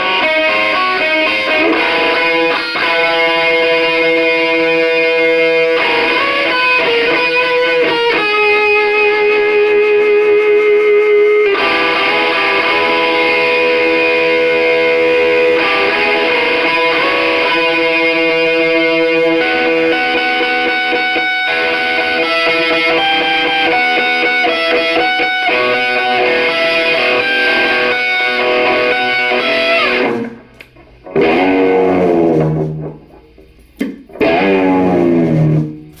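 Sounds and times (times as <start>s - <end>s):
electric guitar through amplifier: 0.0s - 36.0s.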